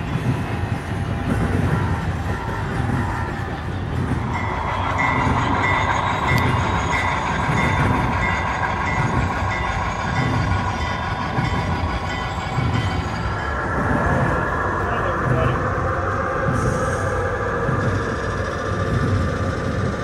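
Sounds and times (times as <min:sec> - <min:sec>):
model train rumbling on track: 0:00.0 - 0:20.0.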